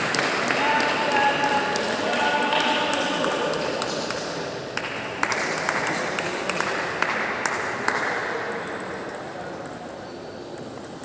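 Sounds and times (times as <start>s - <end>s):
crowd noise in a large hall: 0.0s - 11.0s.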